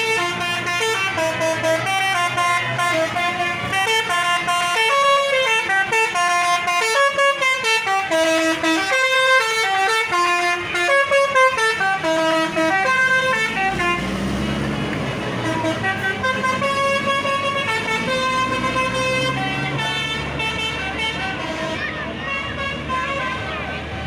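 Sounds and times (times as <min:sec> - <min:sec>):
bus multi-tone horn melody: 0:00.0 - 0:24.0.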